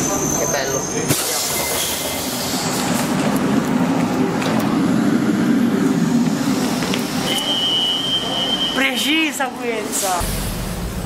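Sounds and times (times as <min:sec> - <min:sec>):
train rumble with hiss: 0:00.0 - 0:11.0.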